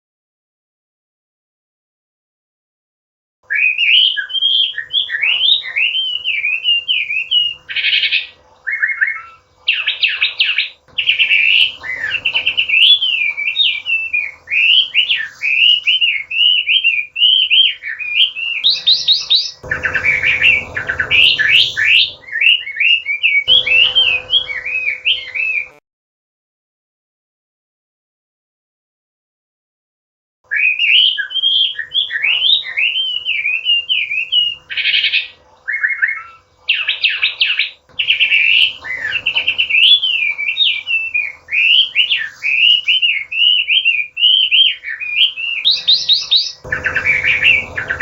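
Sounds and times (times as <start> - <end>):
bird singing whistled phrases: 3.5 - 25.8, 30.5 - 48.0.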